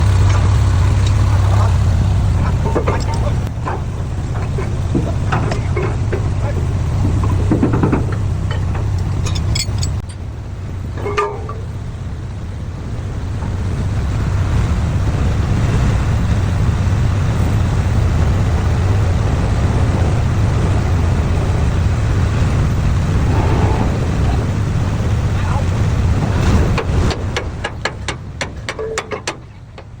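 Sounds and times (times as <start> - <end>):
pile-driving machinery rumbling: 0.0 - 30.0.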